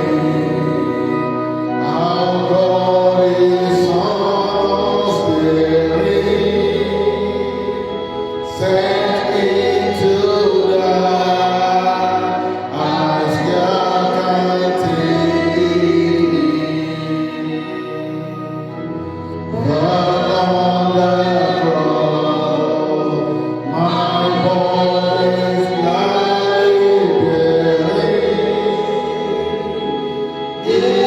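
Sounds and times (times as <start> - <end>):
choir singing gospel music: 0.0 - 31.0
instrumental backing music: 0.0 - 31.0.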